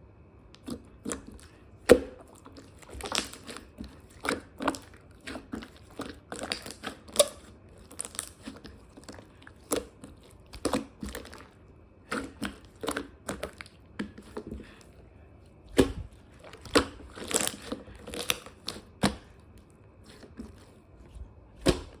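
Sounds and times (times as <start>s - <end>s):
crunching and crackling: 0.6s - 22.0s.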